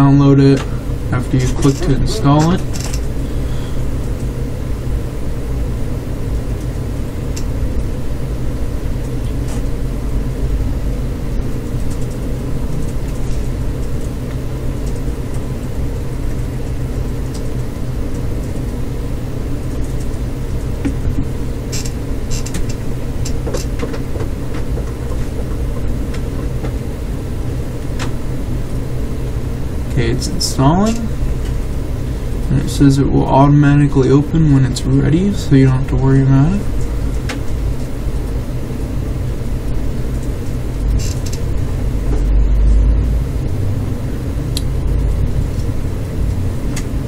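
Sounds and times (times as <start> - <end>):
low rumble and hum: 0.0 - 47.0.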